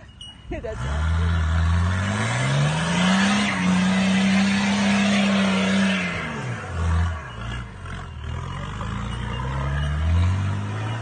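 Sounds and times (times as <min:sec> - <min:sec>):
diesel engine revving: 0:00.6 - 0:11.0.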